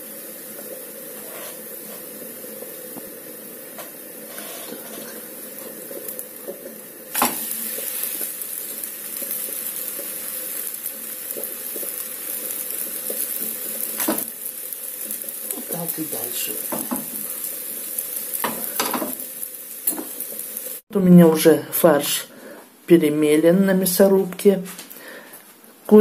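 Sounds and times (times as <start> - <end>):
batter sizzling in a frying pan: 0.0 - 20.9.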